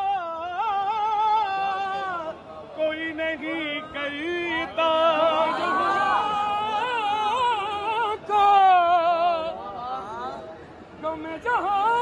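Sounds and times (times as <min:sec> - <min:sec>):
man singing devotional song: 0:00.0 - 0:10.4, 0:11.0 - 0:12.0.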